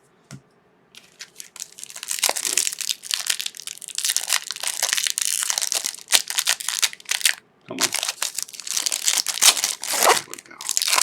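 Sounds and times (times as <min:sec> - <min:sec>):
card pack wrapper crinkling: 0:01.0 - 0:11.0.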